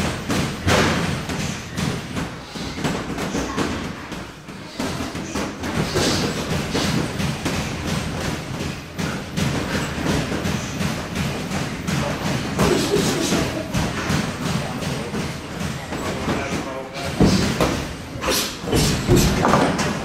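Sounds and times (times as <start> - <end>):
boxing gloves thudding: 0.0 - 20.0
low gym hum: 0.0 - 20.0.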